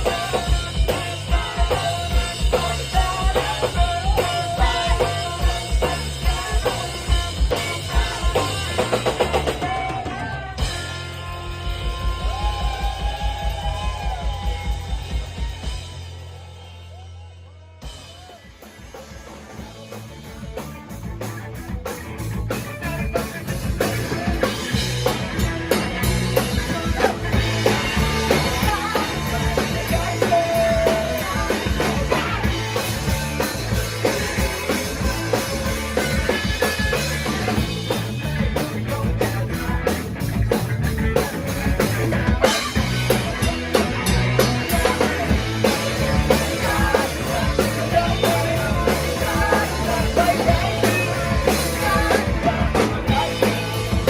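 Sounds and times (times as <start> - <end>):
sung vocals: 0.0 - 21.0, 22.5 - 54.0
live rock band playing: 0.0 - 54.0.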